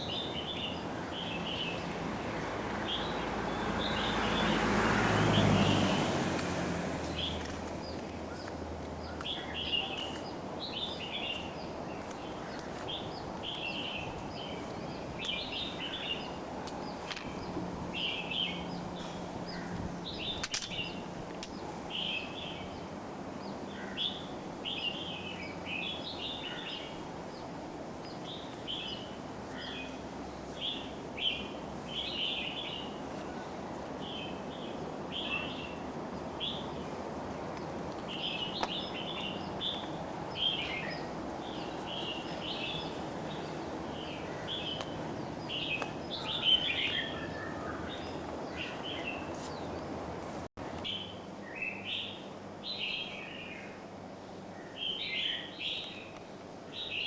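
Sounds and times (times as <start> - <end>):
small birds chirping: 0.0 - 57.0
steady background hiss: 0.0 - 57.0.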